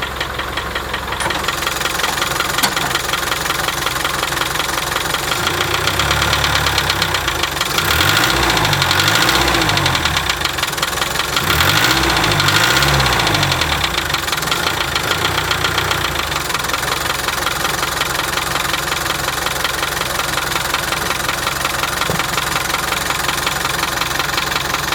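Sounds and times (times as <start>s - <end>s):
diesel engine idling and revving: 0.0s - 24.9s
engine knocking: 0.0s - 24.9s.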